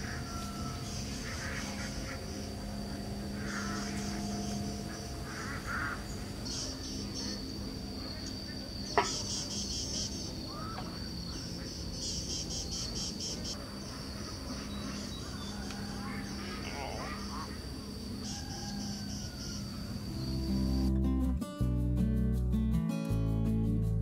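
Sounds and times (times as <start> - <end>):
insects trilling: 0.0 - 20.9
rapid pulsing chirps: 0.0 - 20.9.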